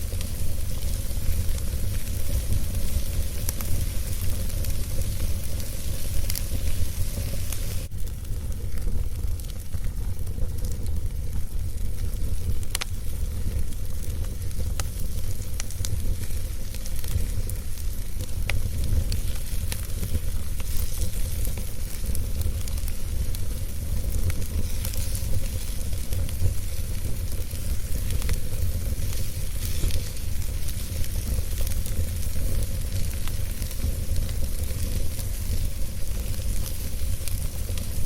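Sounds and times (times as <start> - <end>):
fire crackles and pops: 0.0 - 38.0
wood fire roaring and hissing: 0.0 - 38.0.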